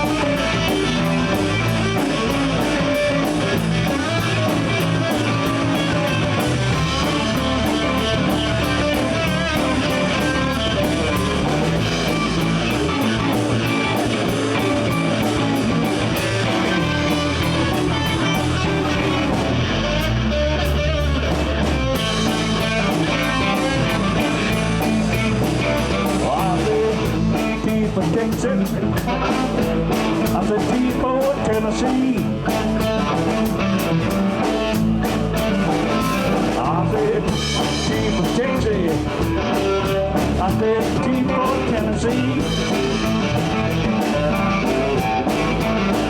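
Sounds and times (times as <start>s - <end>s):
drum kit cymbal beat: 0.0s - 20.1s, 20.7s - 46.0s
bass guitar: 0.0s - 46.0s
lead guitar: 0.0s - 46.0s.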